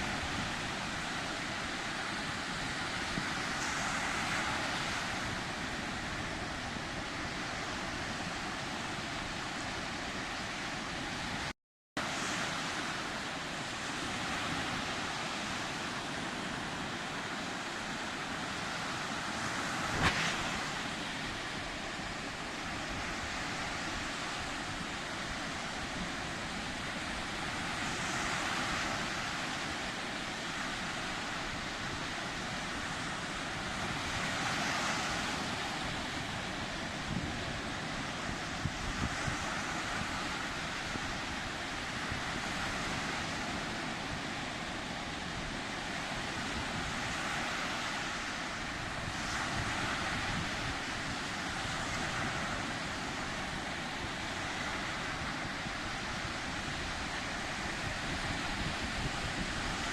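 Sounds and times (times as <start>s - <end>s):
sea waves breaking on shore: 0.0s - 59.9s
wind on microphone: 0.0s - 59.9s.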